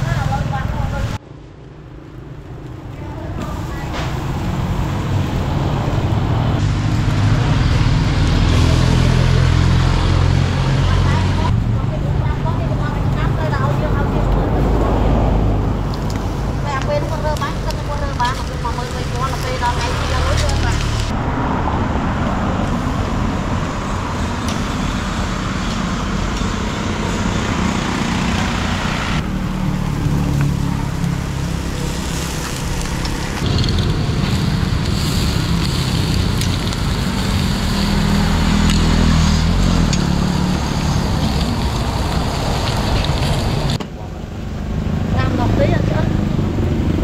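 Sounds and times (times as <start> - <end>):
road traffic passing: 0.0 - 47.0.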